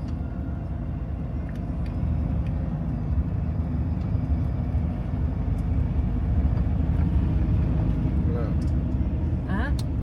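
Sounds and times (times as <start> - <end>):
campervan engine rumble: 0.0 - 10.0.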